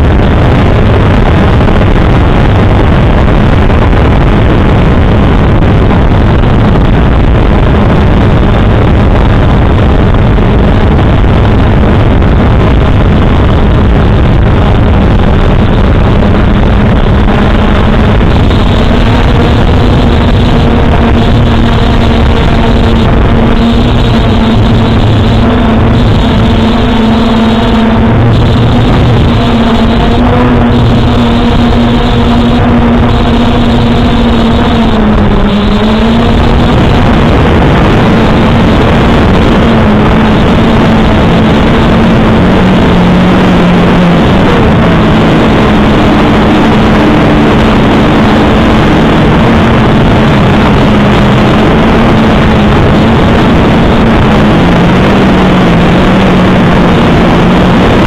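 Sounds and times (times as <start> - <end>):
air rush: 0.0 - 58.0
drone propellers buzzing: 0.0 - 58.0
steady hum with overtones: 0.0 - 58.0.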